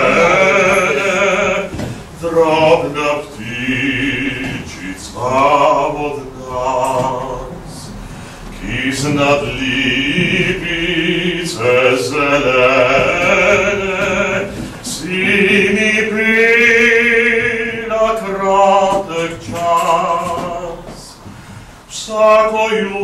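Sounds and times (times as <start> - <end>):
man singing with vibrato: 0.0 - 23.0.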